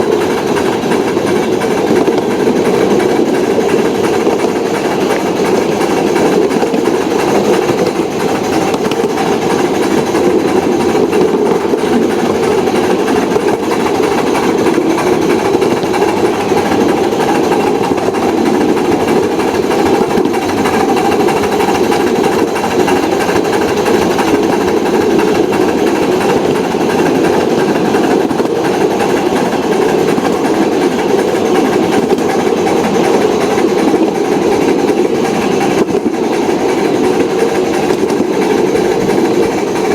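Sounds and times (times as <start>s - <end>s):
miniature train wheels rattling: 0.0s - 39.9s.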